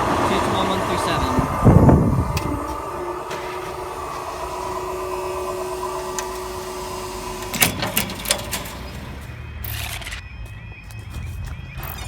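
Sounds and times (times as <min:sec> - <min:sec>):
train humming past: 0:00.0 - 0:10.1.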